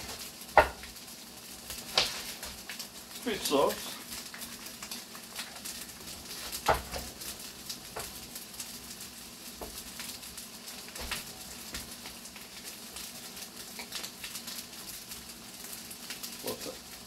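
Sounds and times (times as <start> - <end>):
green beans sizzling in a pan: 0.0 - 17.0.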